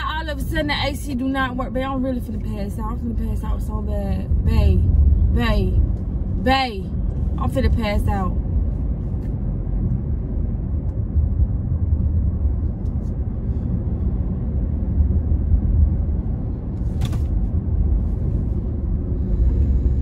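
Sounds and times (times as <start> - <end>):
road and engine noise in car: 0.0 - 20.0.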